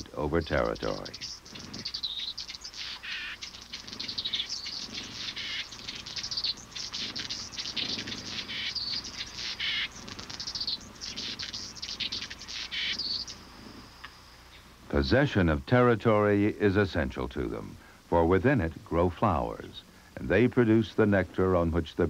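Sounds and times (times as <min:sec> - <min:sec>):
hummingbirds chattering: 0:00.0 - 0:22.0.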